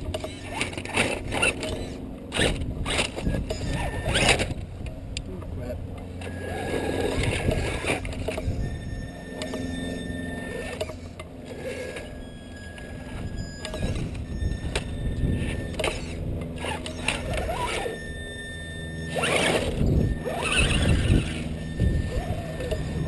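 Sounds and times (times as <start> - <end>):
electric motor whining: 0.0 - 23.0.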